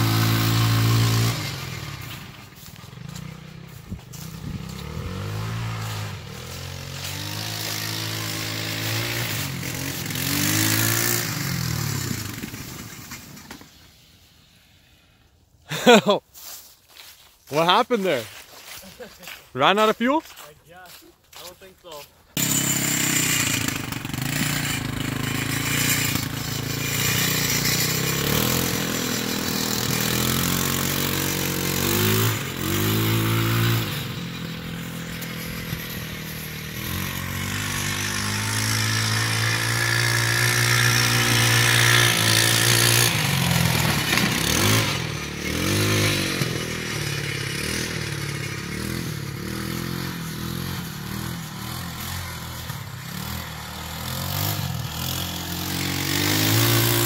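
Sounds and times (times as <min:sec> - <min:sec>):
atv engine revving: 0:00.0 - 0:13.7, 0:22.4 - 0:57.0.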